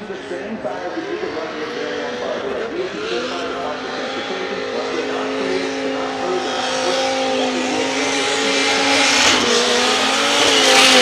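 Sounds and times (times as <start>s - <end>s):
car engine at steady revs: 0.0s - 11.0s.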